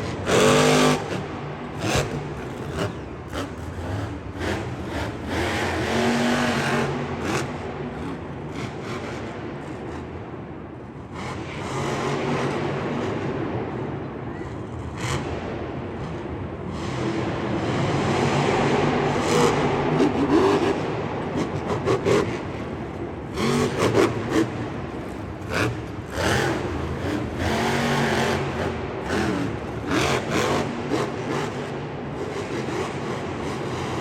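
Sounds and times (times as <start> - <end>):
vehicle engines revving: 0.0 - 34.0.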